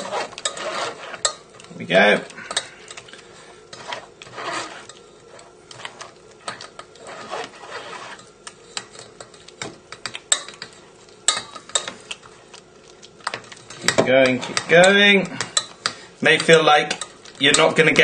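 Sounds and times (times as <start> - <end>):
utensil scraping soup through sieve: 0.0 - 9.7, 13.2 - 18.0.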